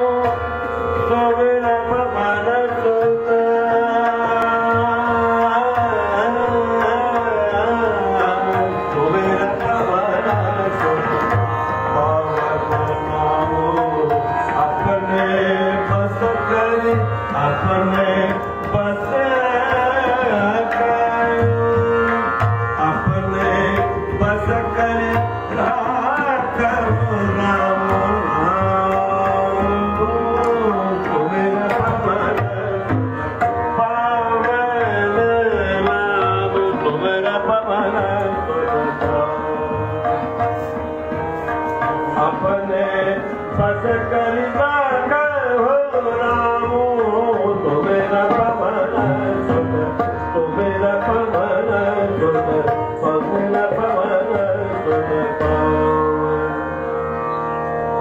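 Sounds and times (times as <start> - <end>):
tabla drumming: 0.0 - 56.8
man singing: 0.0 - 57.1
harmonium chords: 0.0 - 58.0.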